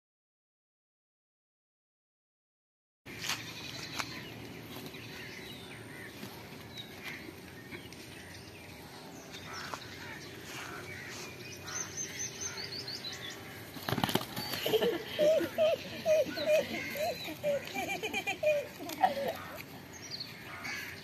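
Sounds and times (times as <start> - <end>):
low background noise: 3.1 - 21.0
small birds chirping: 3.1 - 21.0.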